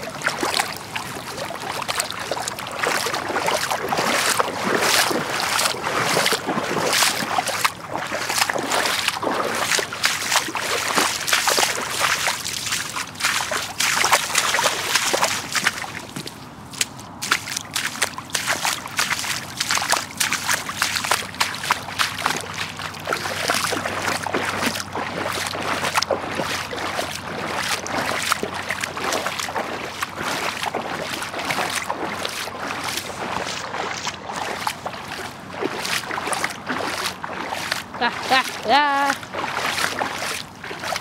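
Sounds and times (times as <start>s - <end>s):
rushing water: 0.0s - 41.0s
water splashing: 0.0s - 41.0s.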